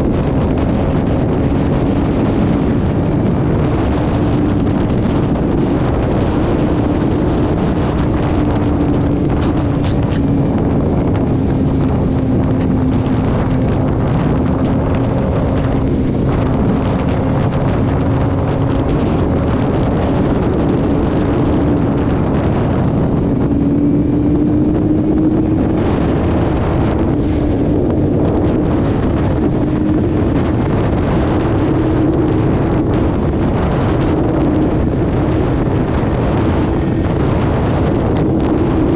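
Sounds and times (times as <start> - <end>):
vehicle engine cruising: 0.0 - 38.9
wind rush on microphone: 0.0 - 38.9.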